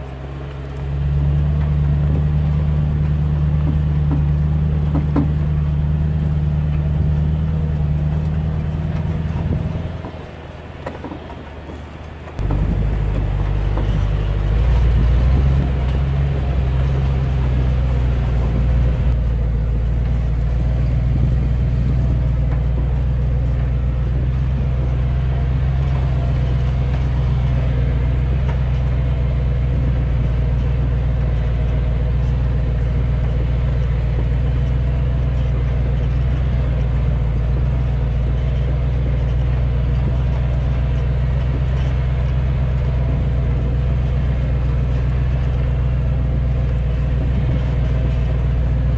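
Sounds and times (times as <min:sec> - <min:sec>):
truck engine drone: 0:00.0 - 0:48.9.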